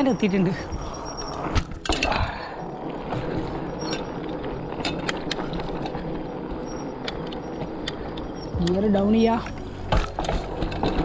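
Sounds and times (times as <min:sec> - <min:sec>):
steady background rush: 0:00.0 - 0:11.0.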